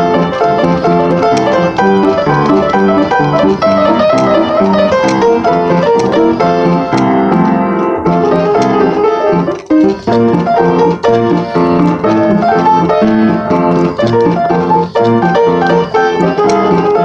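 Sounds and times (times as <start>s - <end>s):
ragtime piano playing: 0.0s - 17.0s.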